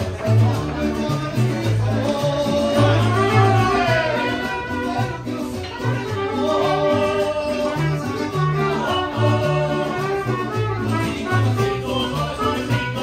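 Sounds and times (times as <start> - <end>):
mariachi band playing: 0.0 - 13.0.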